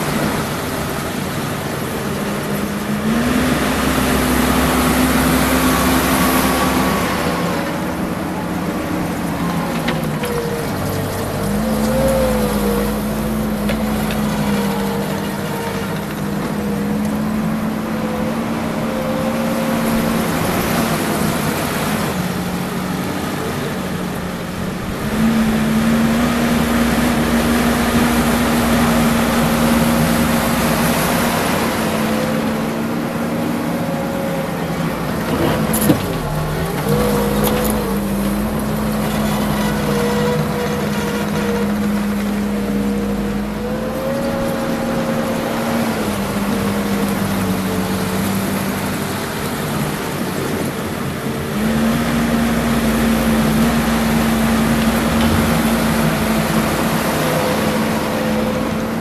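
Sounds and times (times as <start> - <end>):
diesel engine at high revs: 0.0 - 59.0.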